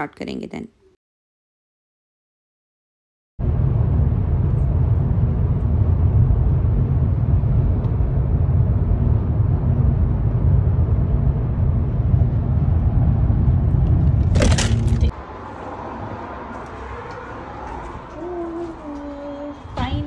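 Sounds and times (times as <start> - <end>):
car cabin road and engine drone: 3.4 - 20.0.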